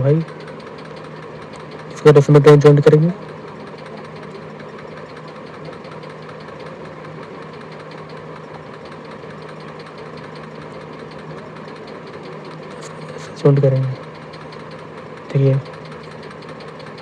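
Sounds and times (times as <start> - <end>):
small motor humming: 0.0 - 17.0.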